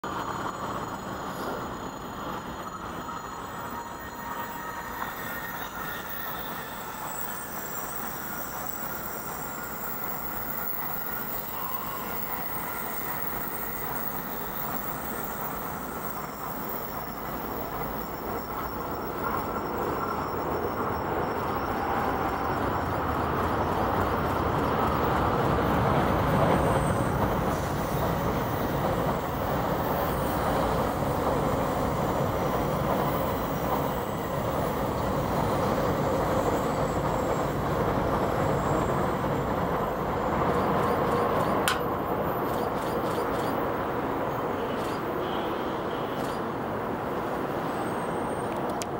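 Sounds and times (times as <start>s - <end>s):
train running on rails: 0.0s - 48.9s.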